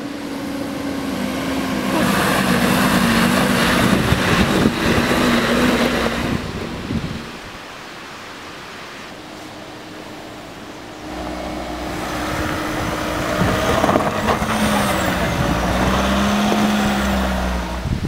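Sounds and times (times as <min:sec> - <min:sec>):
vehicle engine running: 0:00.0 - 0:07.2, 0:09.2 - 0:18.0.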